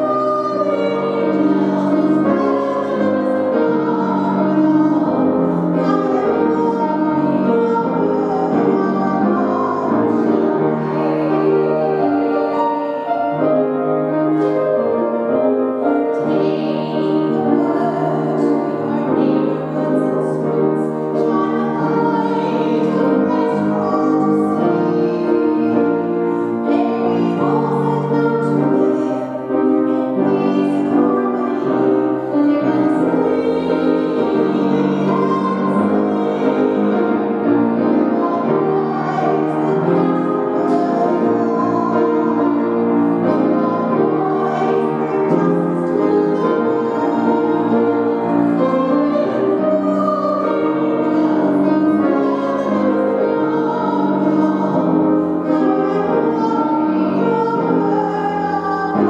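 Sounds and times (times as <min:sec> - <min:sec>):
woman singing: 0:00.0 - 0:13.3, 0:15.8 - 0:59.0
keyboard chords: 0:00.0 - 0:59.0.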